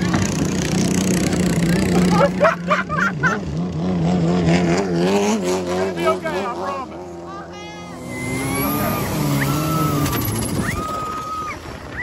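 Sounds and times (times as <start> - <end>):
boat diesel engine running: 0.0 - 4.0, 5.8 - 12.0.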